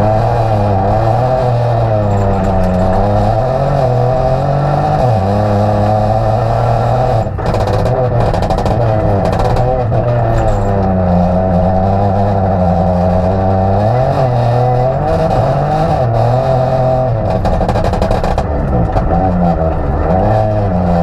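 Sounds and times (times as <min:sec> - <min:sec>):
car engine revving: 0:00.0 - 0:21.0
gravel striking car: 0:00.0 - 0:21.0.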